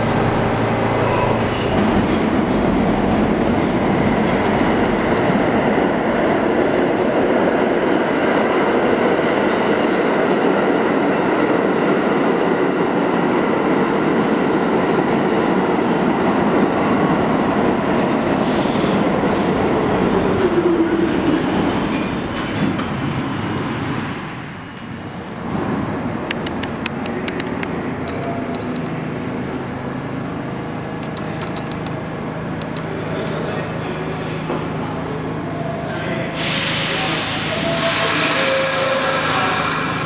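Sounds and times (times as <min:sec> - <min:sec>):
subway train rumbling on track: 0:00.0 - 0:40.0.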